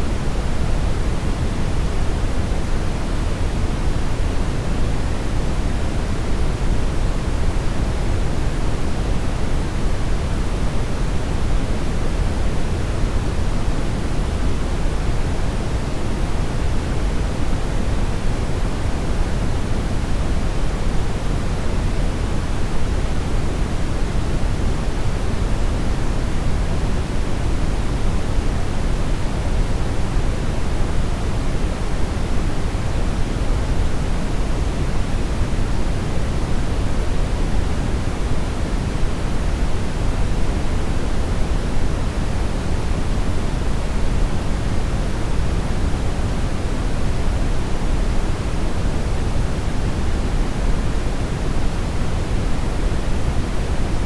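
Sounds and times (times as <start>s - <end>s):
brown noise rumbling hiss: 0.0s - 54.0s.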